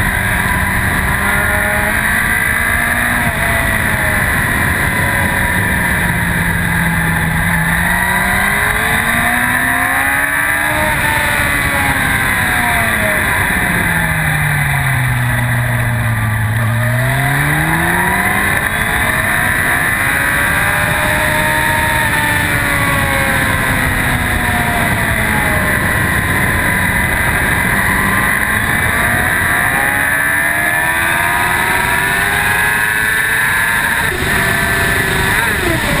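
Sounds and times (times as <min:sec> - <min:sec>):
heavy wind noise: 0:00.0 - 0:36.0
motorcycle engine revving: 0:00.0 - 0:36.0.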